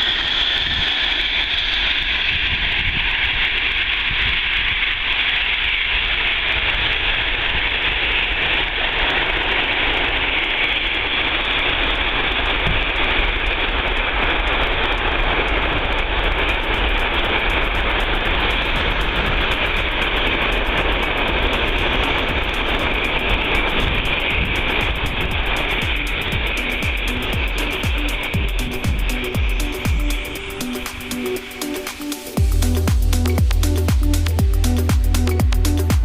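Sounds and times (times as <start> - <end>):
jet engines roaring: 0.0 - 36.0.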